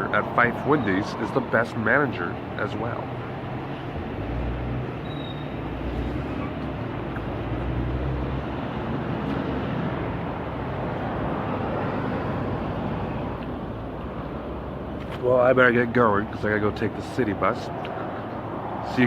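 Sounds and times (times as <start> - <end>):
vehicle engine rumble: 0.0 - 18.9.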